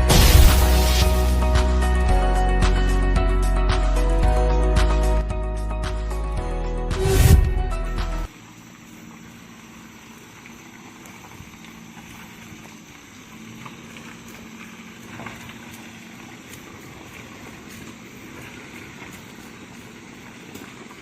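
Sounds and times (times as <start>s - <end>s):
truck engine running at low revs: 0.0s - 21.0s.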